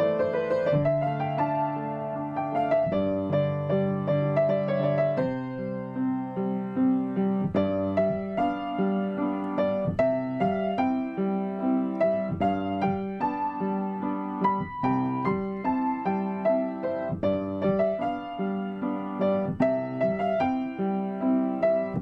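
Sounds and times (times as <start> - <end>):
slow classical piano piece: 0.0 - 22.0.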